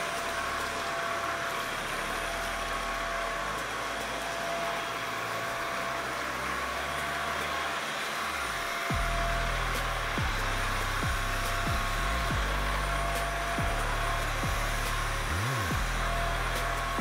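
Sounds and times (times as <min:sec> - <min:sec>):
stick vacuum running: 0:00.0 - 0:17.0.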